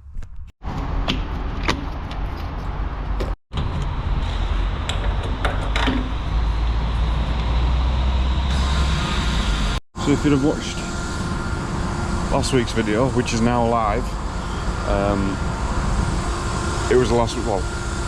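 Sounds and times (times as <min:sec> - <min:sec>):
road noise: 0:00.6 - 0:18.0
heavy truck engine: 0:02.5 - 0:18.0.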